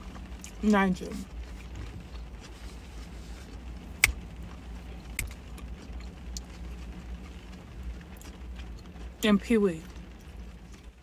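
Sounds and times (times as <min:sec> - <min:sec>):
low rumble inside car: 0:00.0 - 0:11.0.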